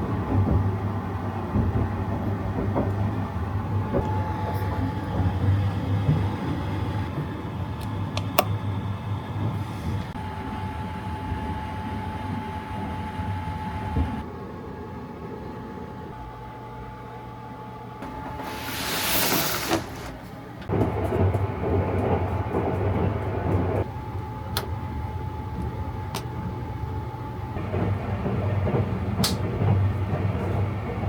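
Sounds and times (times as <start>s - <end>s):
train rumbling: 0.0s - 16.2s, 18.0s - 31.0s.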